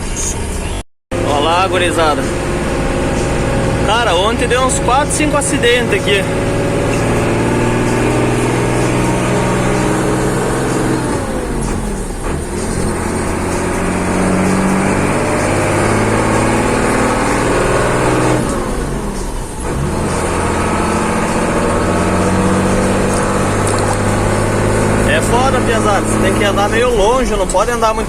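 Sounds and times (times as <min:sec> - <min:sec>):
truck diesel engine: 0:00.0 - 0:28.0.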